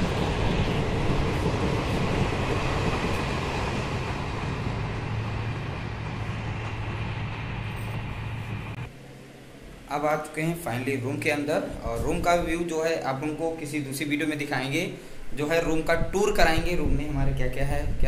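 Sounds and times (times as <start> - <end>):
passenger train rumbling past: 0.0 - 18.0.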